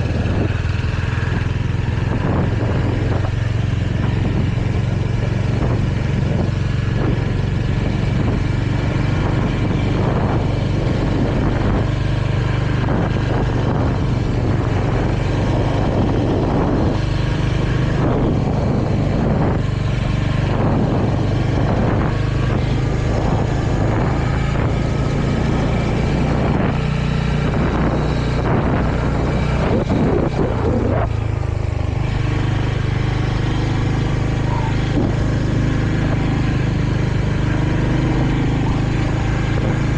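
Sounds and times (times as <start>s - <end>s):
motorcycle engine cruising: 0.0s - 39.9s
rushing riding noise: 0.0s - 39.9s.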